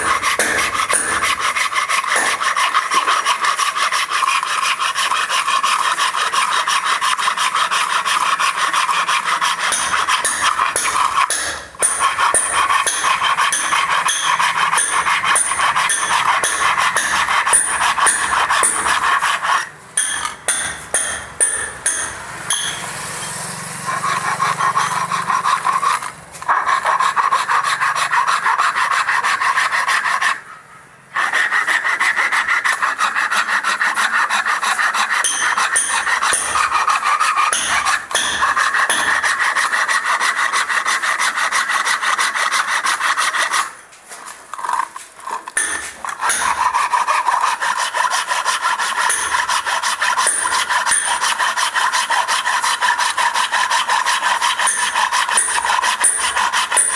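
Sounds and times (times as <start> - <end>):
hacksaw cutting wood: 0.0 - 56.9.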